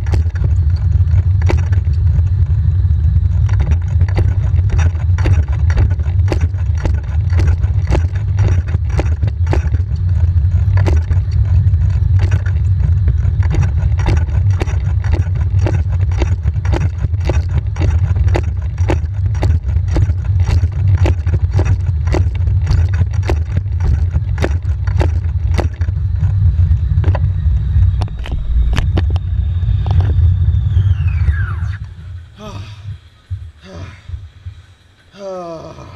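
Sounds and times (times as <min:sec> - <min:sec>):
wheels rumbling on a roller: 0:00.0 - 0:35.9.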